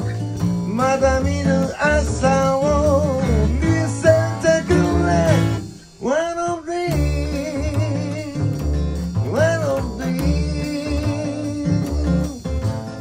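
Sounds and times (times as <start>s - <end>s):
drum kit: 0.0s - 6.1s, 6.8s - 13.0s
acoustic guitar: 0.0s - 13.0s
upright double bass: 0.0s - 13.0s.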